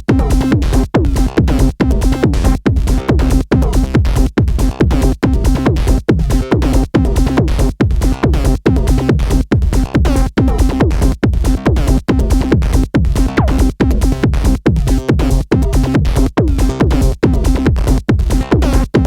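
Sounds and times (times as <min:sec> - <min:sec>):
pumping techno beat: 0:00.0 - 0:19.0.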